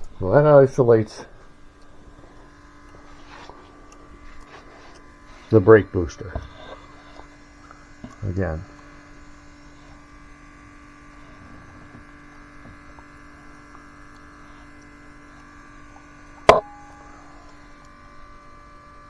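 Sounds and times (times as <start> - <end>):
small motor humming: 0.0 - 19.0.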